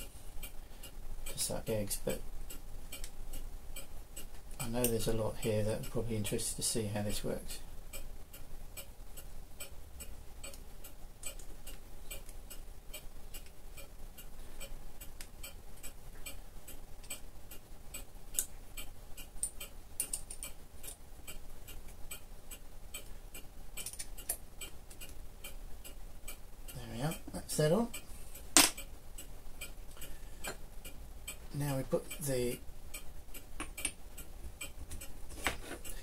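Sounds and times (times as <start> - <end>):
mechanical clock ticking: 0.0 - 35.2.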